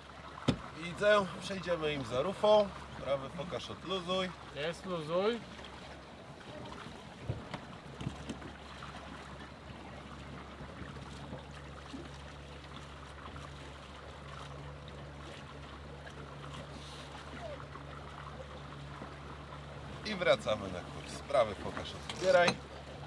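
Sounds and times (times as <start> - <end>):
water rushing along boat hull: 0.0 - 23.0.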